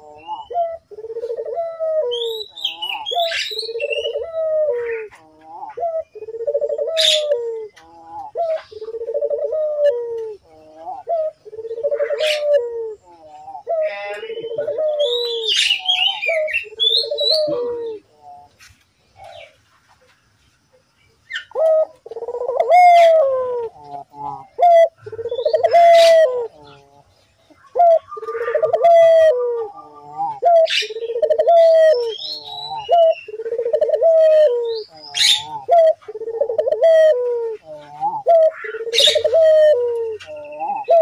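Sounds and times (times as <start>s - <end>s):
dove cooing: 0.0s - 19.6s, 21.3s - 41.0s.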